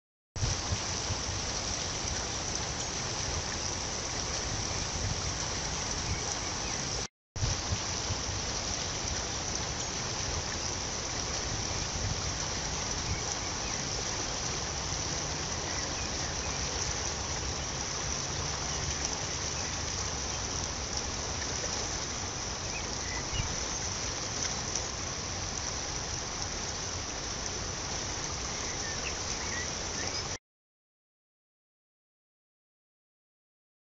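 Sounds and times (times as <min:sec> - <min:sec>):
flowing river water: 0:00.4 - 0:30.4.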